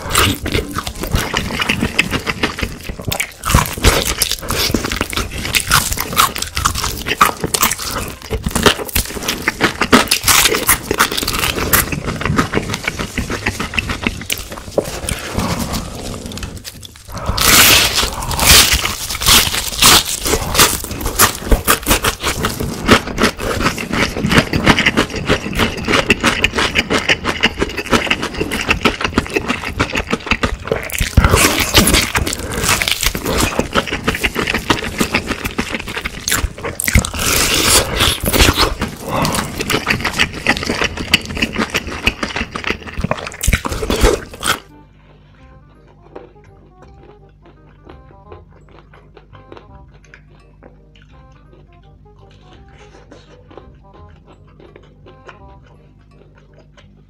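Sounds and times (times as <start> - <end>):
crunching fried chicken: 0.0 - 44.8, 45.4 - 57.0
faint music: 0.0 - 57.0.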